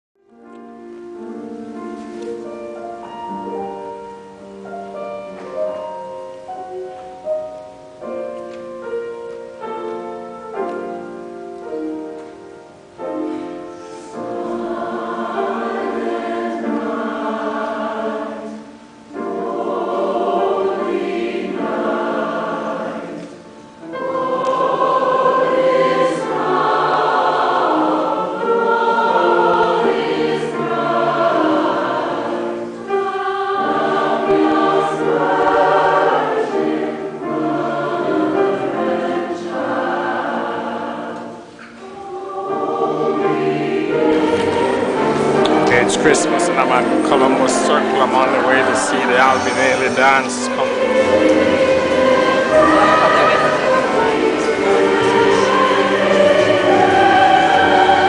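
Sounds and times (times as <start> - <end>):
piano chords: 0.2 - 58.0
choir singing: 1.2 - 58.0.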